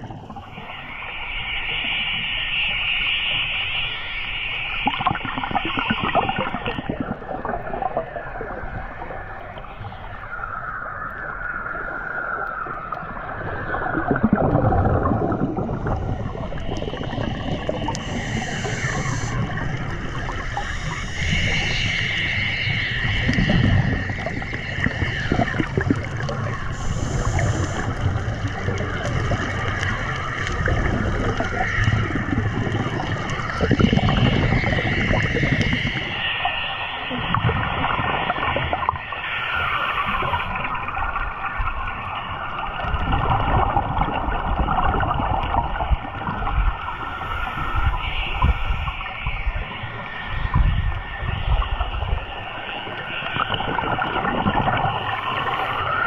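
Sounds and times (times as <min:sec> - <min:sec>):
high whine: 0:00.0 - 0:56.0
regulator bubbles gurgling: 0:00.0 - 0:56.0
water hiss: 0:00.0 - 0:56.0.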